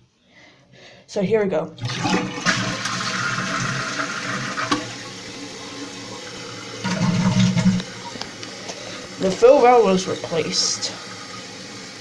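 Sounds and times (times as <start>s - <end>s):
toilet flushing: 1.8s - 12.0s
fill valve hissing: 2.1s - 12.0s.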